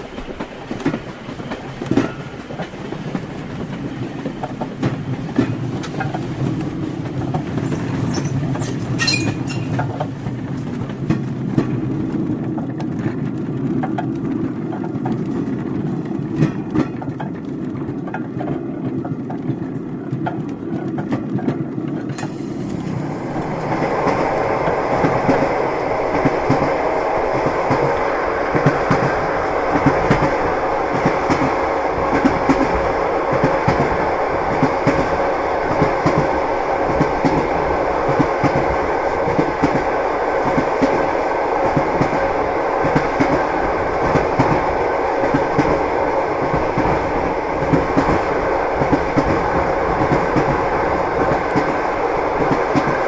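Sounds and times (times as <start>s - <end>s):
train rolling rumble: 0.0s - 53.0s
train wheels clicking on rails: 0.0s - 53.0s.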